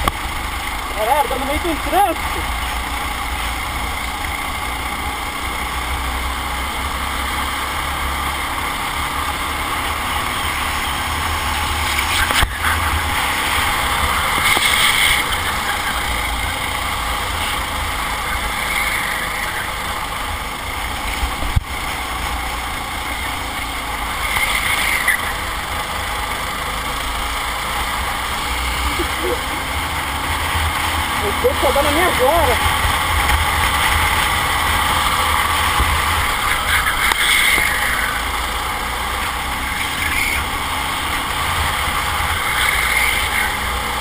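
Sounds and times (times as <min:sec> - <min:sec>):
kart engine under load: 0:00.0 - 0:44.0
wind and road noise: 0:00.0 - 0:44.0.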